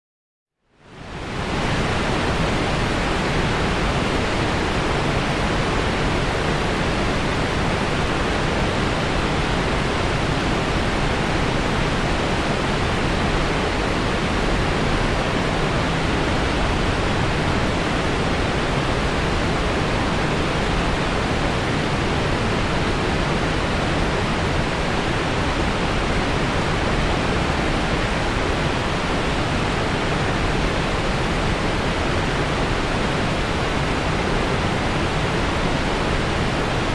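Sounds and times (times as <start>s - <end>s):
waterfall rushing: 0.9s - 36.9s.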